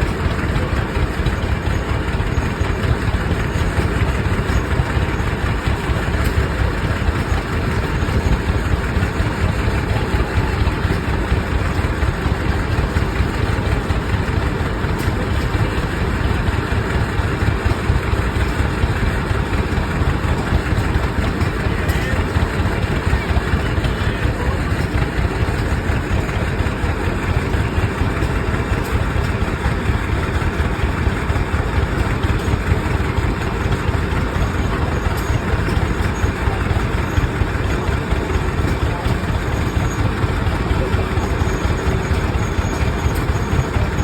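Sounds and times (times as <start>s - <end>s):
tractor engines pulsing exhaust: 0.0s - 44.0s.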